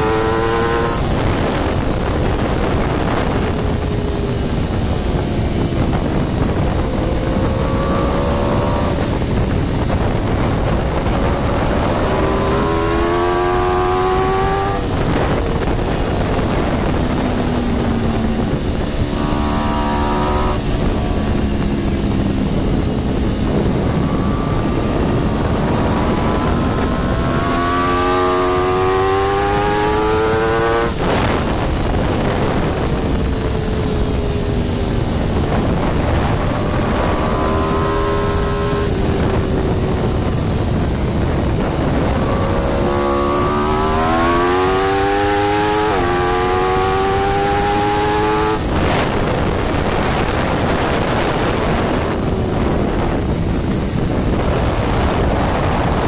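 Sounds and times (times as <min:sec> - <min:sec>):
motorcycle engine accelerating: 0:00.0 - 0:56.0
wind rush on microphone: 0:00.0 - 0:56.0.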